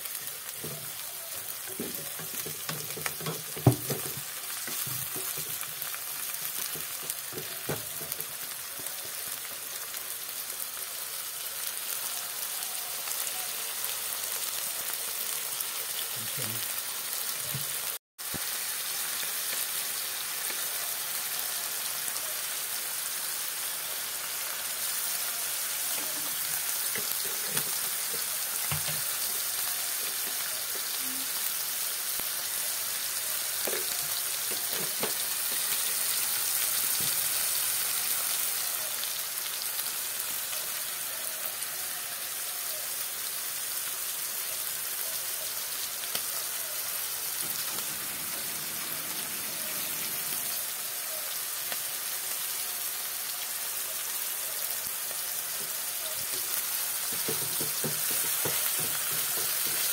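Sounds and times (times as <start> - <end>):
vegetables sizzling in a pan: 0.0 - 59.9.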